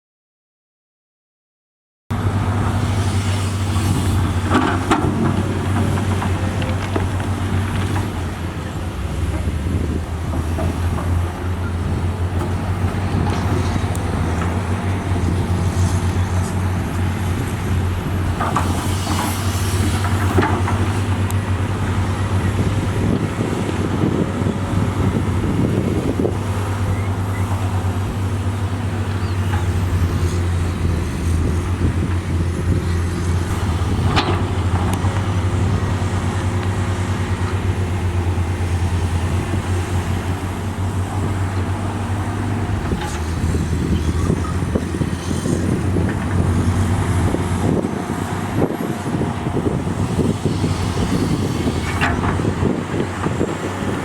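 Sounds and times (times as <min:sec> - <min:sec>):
diesel engine running: 0:02.1 - 0:54.0.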